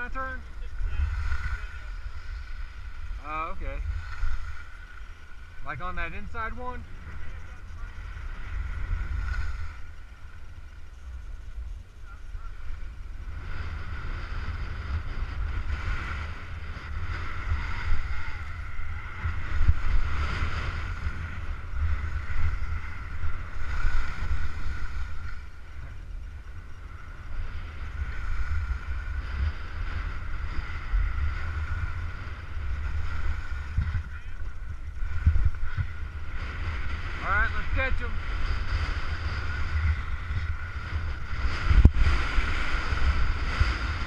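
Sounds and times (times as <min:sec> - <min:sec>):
skis sliding on snow: 0:00.0 - 0:11.7, 0:17.0 - 0:44.0
wind buffeting microphone: 0:00.0 - 0:44.0.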